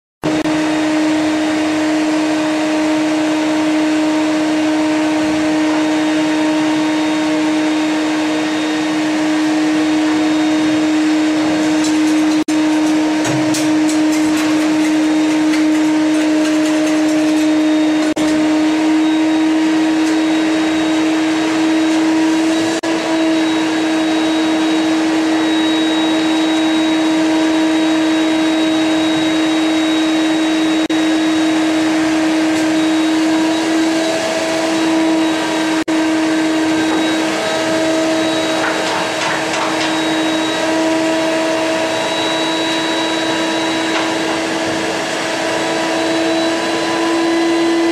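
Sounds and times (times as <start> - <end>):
vacuum cleaner running: 0.2 - 47.9.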